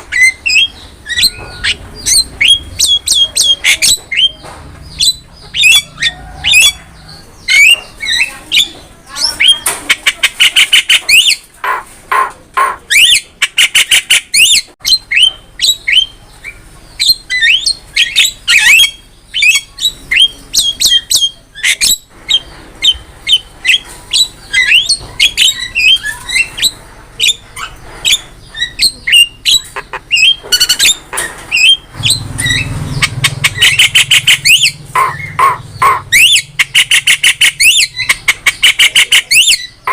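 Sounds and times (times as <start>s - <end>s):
bird singing squawks and whistles: 0.0s - 11.5s, 12.6s - 39.9s.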